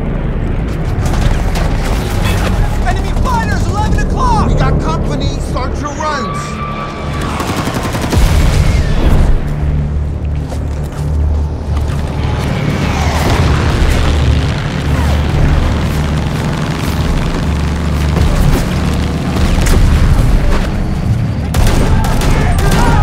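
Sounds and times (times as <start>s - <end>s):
explosions and aircraft rumble: 0.0s - 6.0s, 6.9s - 23.0s
film music: 0.0s - 23.0s.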